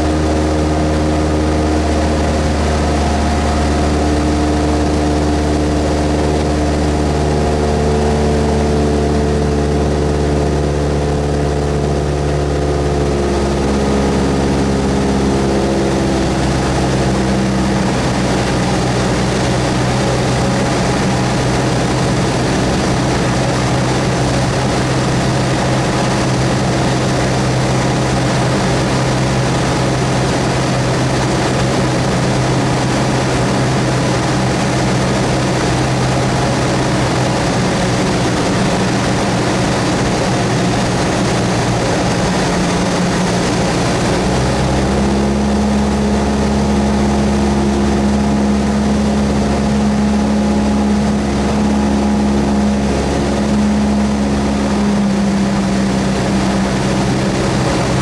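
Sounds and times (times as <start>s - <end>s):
piston aircraft engine and propeller: 0.0s - 58.0s.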